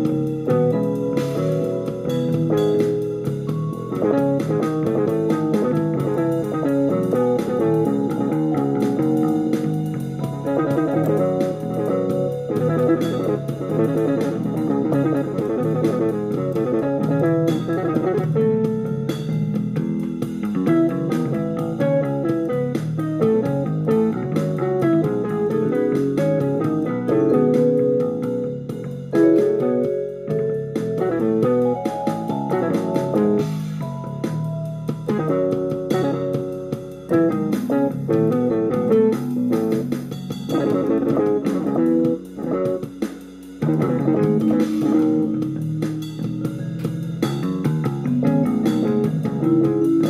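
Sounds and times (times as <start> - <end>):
bass line: 0.0 - 50.0
guitar-like keyboard lines: 0.0 - 50.0.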